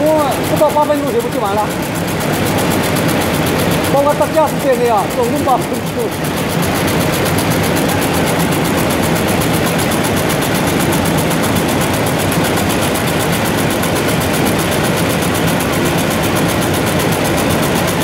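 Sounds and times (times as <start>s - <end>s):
fast even ticking: 0.0s - 18.0s
textile mill machinery din: 0.0s - 18.0s.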